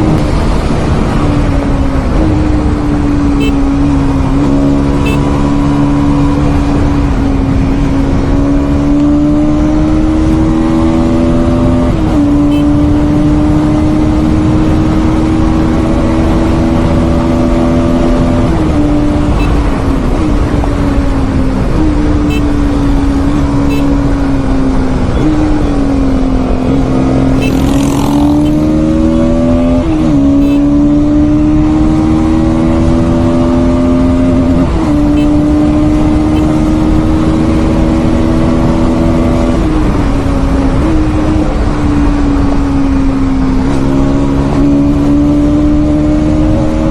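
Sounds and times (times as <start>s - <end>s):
motorcycle engine running hard: 0.0s - 46.9s.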